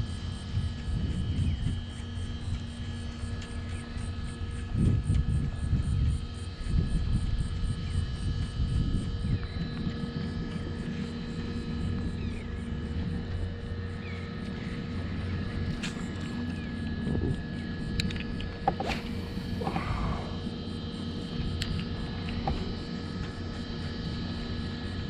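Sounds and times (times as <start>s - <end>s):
wind buffeting microphone: 0.0s - 3.0s, 3.6s - 24.8s
steady thin whine: 0.0s - 25.0s.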